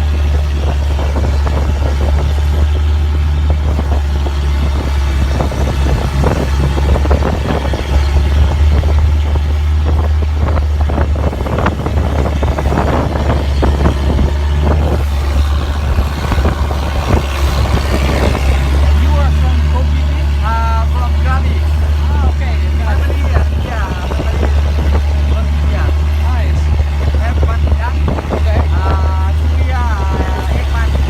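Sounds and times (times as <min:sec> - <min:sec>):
boat engine droning: 0:00.0 - 0:31.0
wind buffeting microphone: 0:00.0 - 0:31.0.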